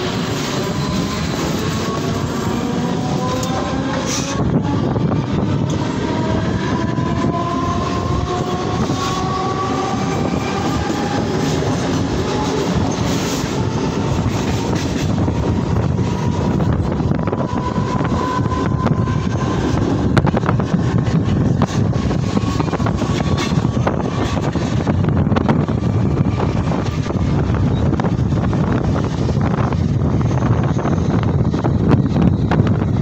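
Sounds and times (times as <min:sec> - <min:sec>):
passing train: 0:00.0 - 0:33.0
train wheels rumbling on rails: 0:00.0 - 0:33.0.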